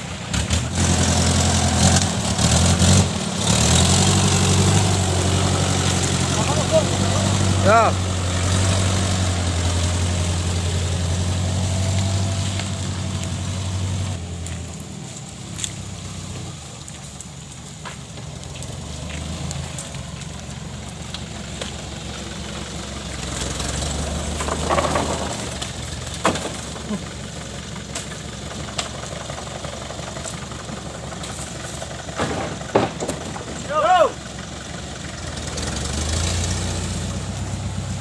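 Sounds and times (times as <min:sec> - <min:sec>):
diesel truck engine humming: 0:00.0 - 0:38.0.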